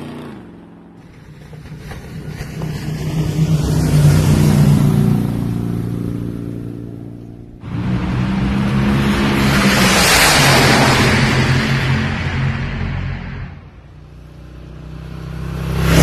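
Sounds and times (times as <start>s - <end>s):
motor vehicle engine passing: 0.0s - 16.0s.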